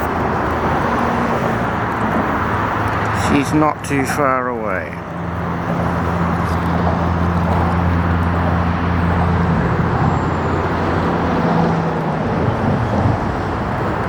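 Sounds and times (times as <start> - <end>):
low engine hum: 0.0 - 14.0
traffic noise: 0.0 - 14.0.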